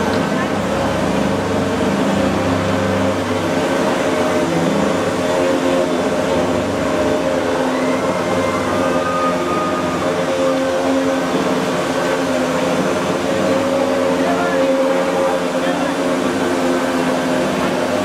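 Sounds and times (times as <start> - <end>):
hovercraft blower motors droning: 0.0 - 18.0.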